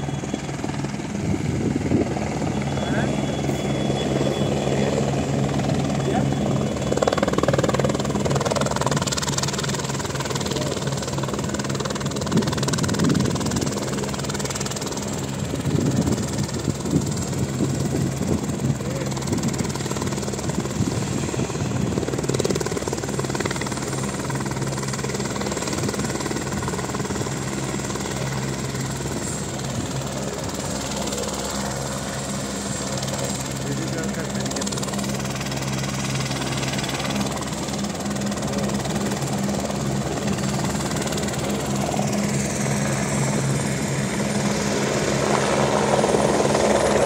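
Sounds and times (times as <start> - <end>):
helicopter rotor drone: 0.0 - 47.0.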